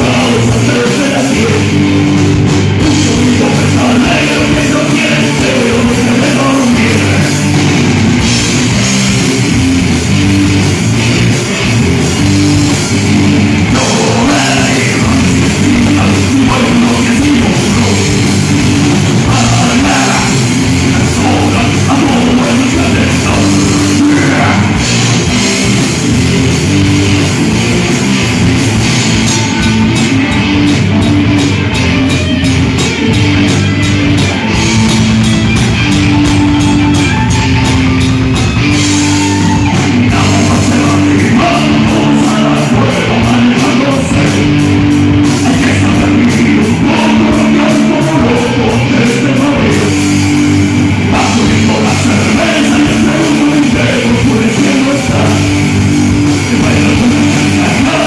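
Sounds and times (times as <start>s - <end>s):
distorted electric guitars: 0.0s - 58.0s
pounding drum kit: 0.0s - 58.0s.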